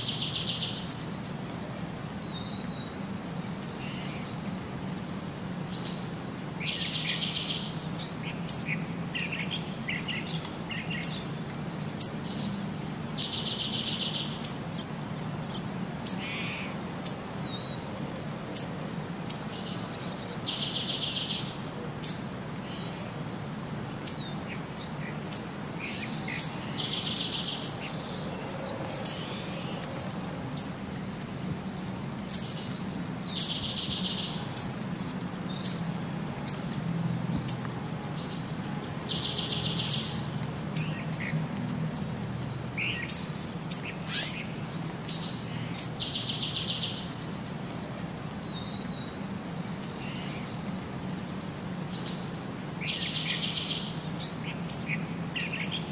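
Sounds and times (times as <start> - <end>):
small birds chirping: 0.0 - 1.4, 2.0 - 23.2, 23.8 - 36.8, 37.4 - 47.6, 48.3 - 55.9.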